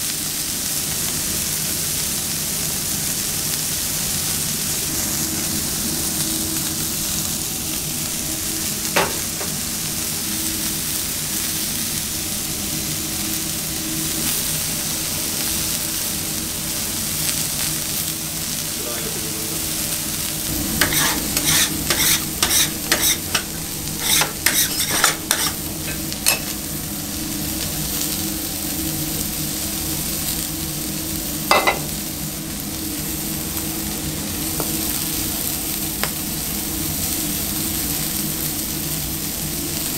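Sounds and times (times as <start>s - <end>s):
burger patties sizzling on grill: 0.0s - 39.9s.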